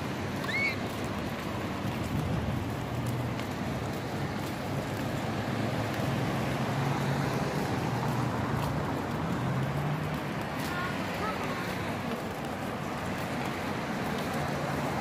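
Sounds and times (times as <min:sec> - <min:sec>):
low engine hum: 0:00.0 - 0:15.0
road traffic hiss: 0:00.0 - 0:15.0.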